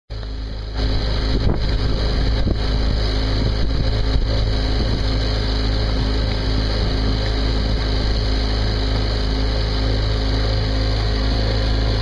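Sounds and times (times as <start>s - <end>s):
boat diesel engine running: 0.1s - 12.0s
wind noise on microphone: 0.2s - 12.0s.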